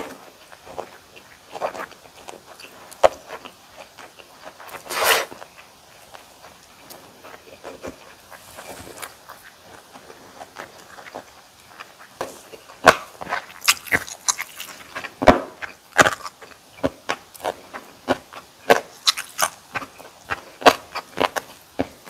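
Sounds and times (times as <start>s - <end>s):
crisp chewing crunches: 0.0s - 21.9s.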